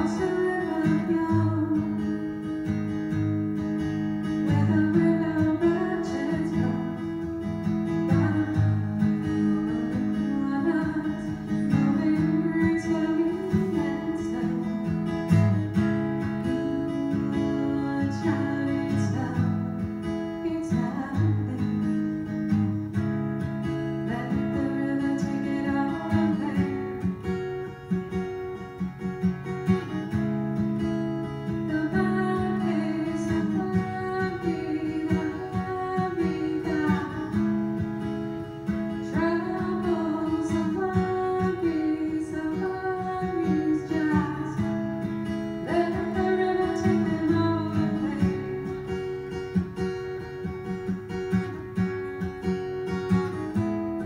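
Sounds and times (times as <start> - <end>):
woman singing: 0.0 - 29.0, 31.2 - 54.0
acoustic guitar strumming: 0.0 - 54.0.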